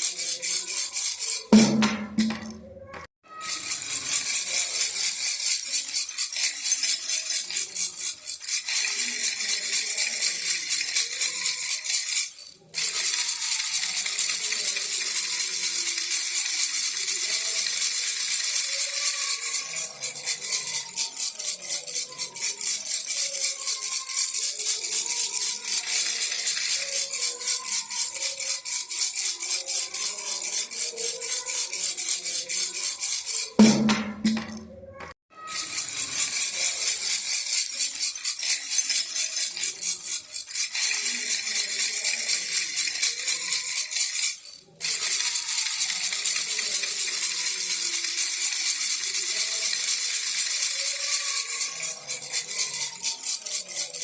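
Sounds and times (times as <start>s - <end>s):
baby rattle shaken: 0.0s - 54.0s.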